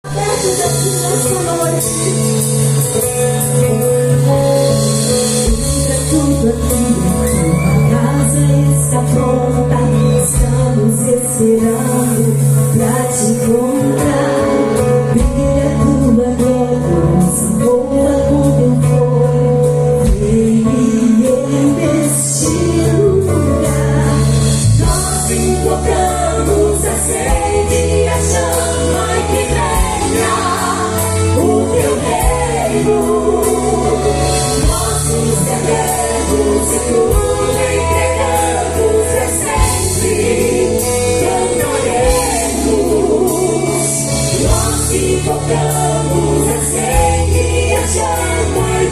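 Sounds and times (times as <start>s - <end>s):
gospel band playing: 0.0s - 48.9s
people singing: 0.0s - 48.9s.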